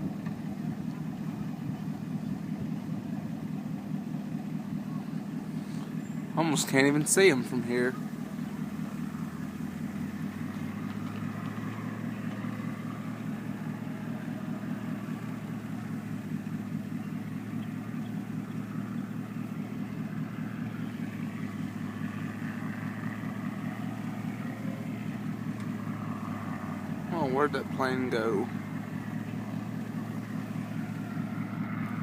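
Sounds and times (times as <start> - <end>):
engine running steadily: 0.0 - 32.0.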